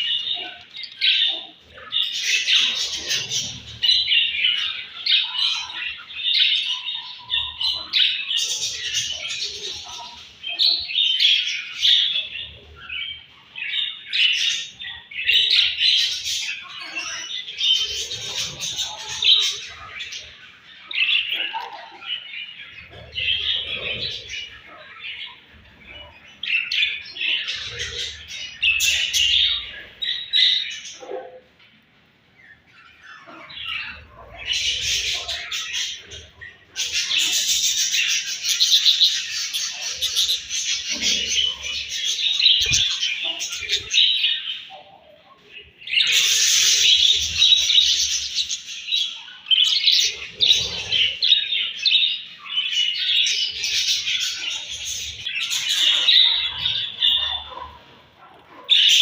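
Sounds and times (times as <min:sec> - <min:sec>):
budgerigars chirping: 0:00.0 - 0:31.3, 0:32.4 - 0:59.0.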